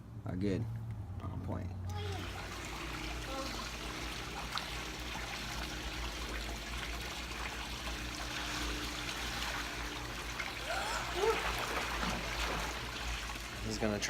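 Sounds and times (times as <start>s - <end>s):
pool water trickling and splashing: 1.3s - 14.0s.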